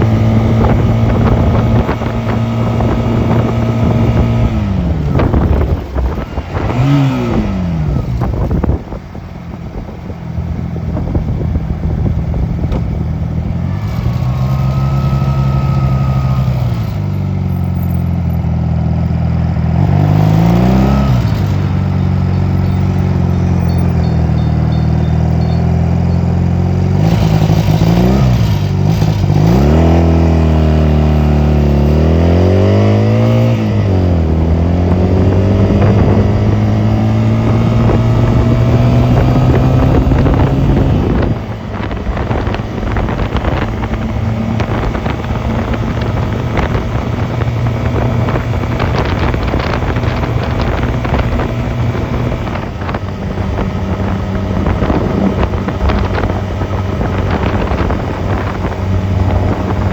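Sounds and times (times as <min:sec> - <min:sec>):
motorcycle engine shifting gears: 0:00.0 - 0:59.9
wind noise on microphone: 0:00.0 - 0:59.9.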